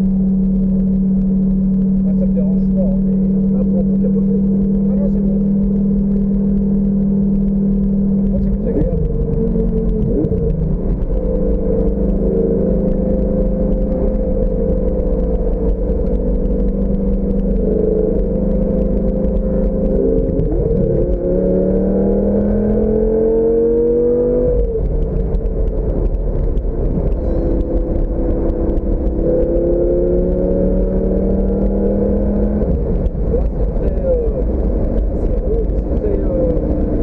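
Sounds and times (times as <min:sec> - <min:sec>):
car engine accelerating: 0:00.0 - 0:37.0
wind and road noise: 0:00.0 - 0:37.0.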